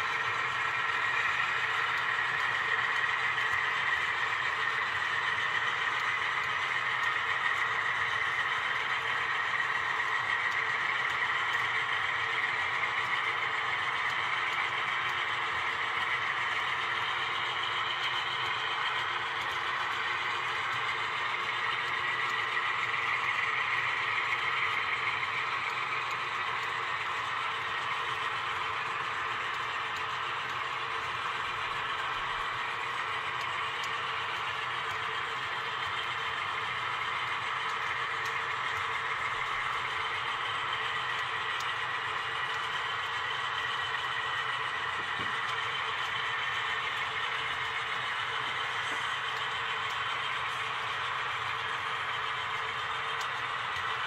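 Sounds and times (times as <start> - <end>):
model train rolling on rails: 0.0 - 54.0.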